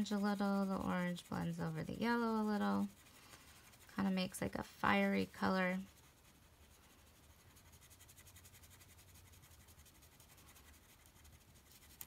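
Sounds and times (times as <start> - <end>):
crayon scratching on paper: 0.0 - 12.0.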